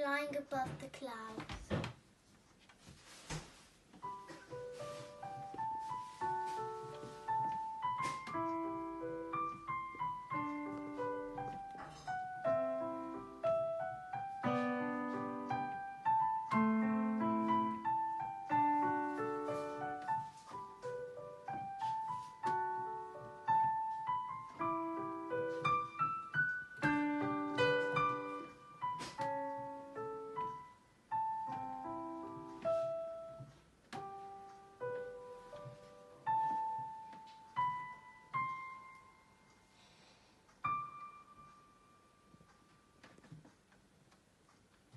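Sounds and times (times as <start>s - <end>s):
slow digital piano piece: 4.0s - 39.9s, 40.6s - 43.6s.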